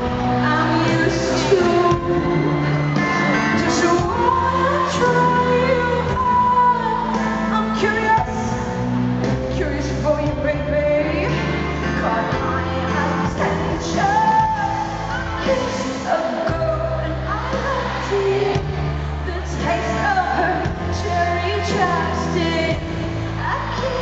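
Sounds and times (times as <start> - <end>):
pop-rock band playing: 0.0 - 24.0
woman singing: 0.2 - 24.0.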